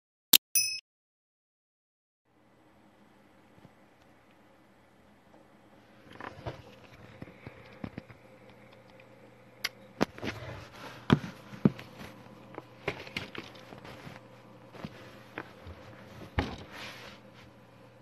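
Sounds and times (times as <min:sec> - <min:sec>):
faint steady hum: 0:02.3 - 0:18.0.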